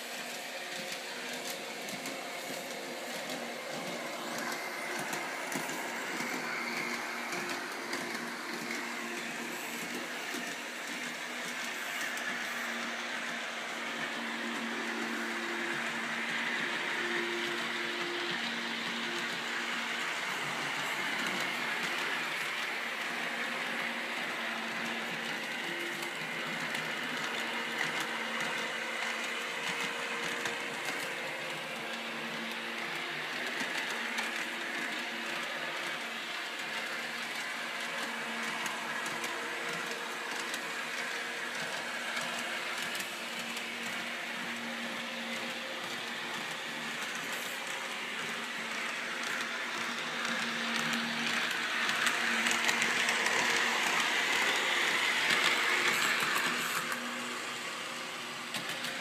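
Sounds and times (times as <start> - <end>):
model train motor hum: 0.0 - 59.0.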